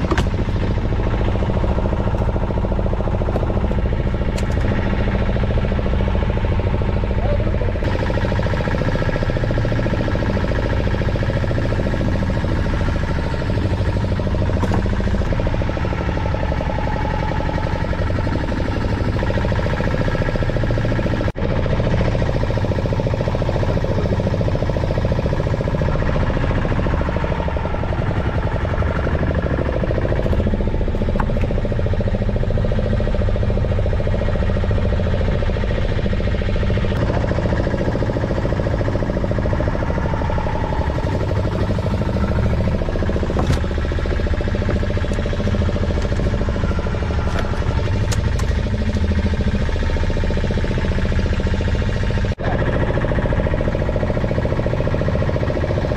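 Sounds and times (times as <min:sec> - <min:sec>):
boat engine running steadily: 0:00.0 - 0:55.9.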